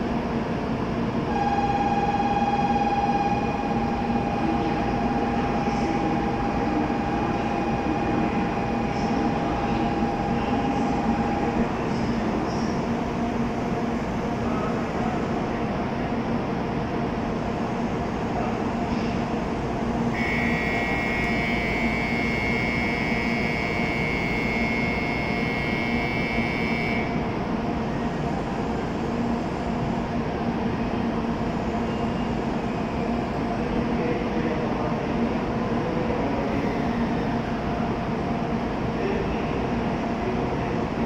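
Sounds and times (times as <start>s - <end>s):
stationary train humming: 0.0s - 41.0s.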